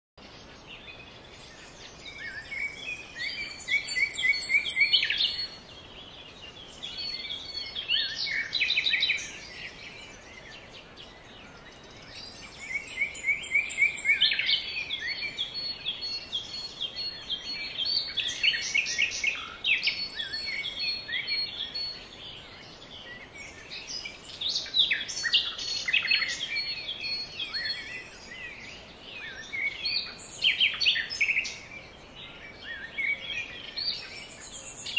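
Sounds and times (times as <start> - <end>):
faint steady hiss: 0.2 - 34.9
songbirds singing: 0.2 - 34.9.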